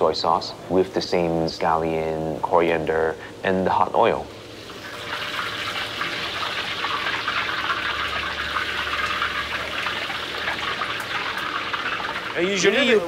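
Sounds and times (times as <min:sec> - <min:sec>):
hot oil sizzling on fish: 0:00.0 - 0:13.0.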